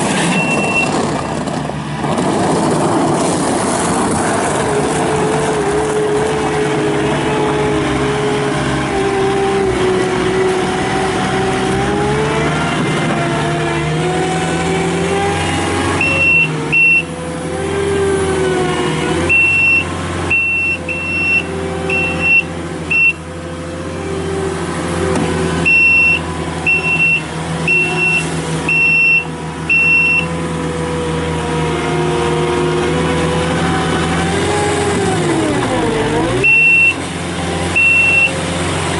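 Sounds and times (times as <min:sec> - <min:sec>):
diesel engine working: 0:00.0 - 0:38.9.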